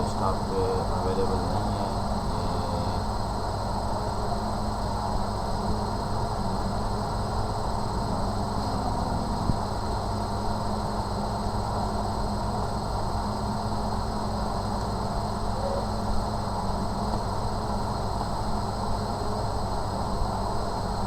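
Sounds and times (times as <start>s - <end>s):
background rumble with low hum: 0.0s - 18.4s.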